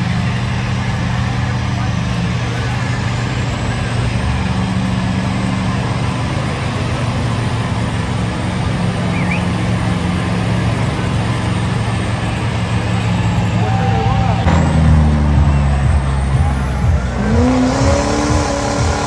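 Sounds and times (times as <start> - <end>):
truck engine running loud: 0.0 - 19.0.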